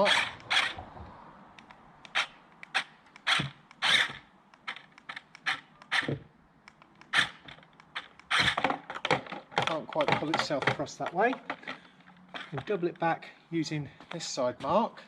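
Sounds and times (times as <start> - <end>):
rc vehicle clicking and knocking: 0.0 - 1.0, 1.6 - 13.1.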